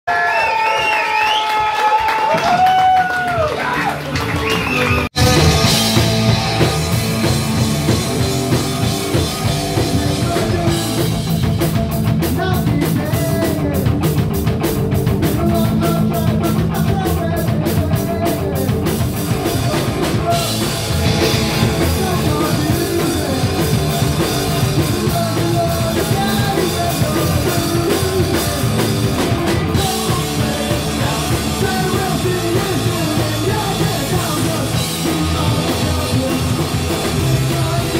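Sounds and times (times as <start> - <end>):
shouted lead vocal: 1.6 - 11.3, 15.0 - 37.9
bass guitar: 3.3 - 37.9
distorted electric guitar: 4.0 - 37.9
drum kit with fast cymbals: 4.8 - 37.9.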